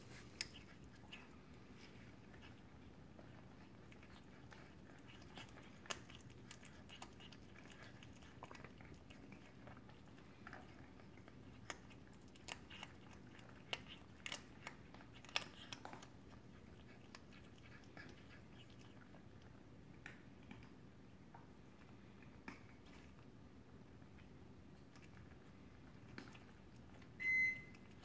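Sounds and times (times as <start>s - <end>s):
cat chewing and crunching: 0.0s - 28.0s.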